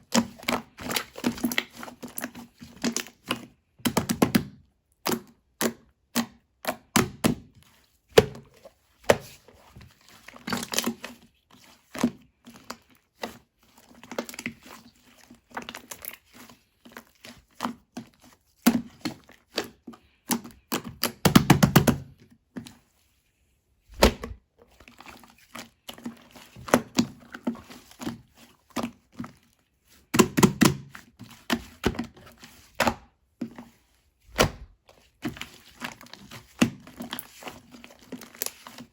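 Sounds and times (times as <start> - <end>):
slime squishing by hand: 0.0 - 23.0, 23.9 - 38.9.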